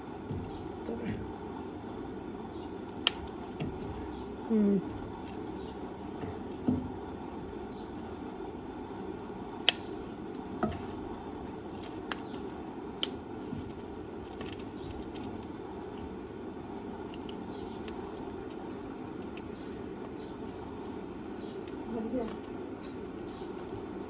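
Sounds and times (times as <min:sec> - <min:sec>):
appliance hum: 0:00.0 - 0:24.0.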